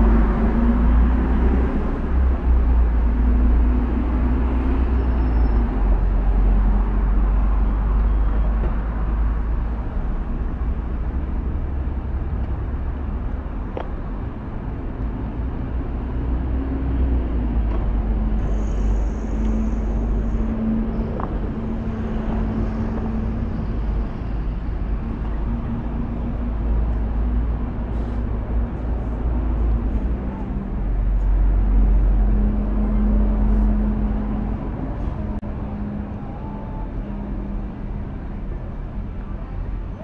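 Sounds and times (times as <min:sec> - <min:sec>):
road traffic noise: 0:00.0 - 0:40.0
steady engine hum: 0:00.0 - 0:40.0.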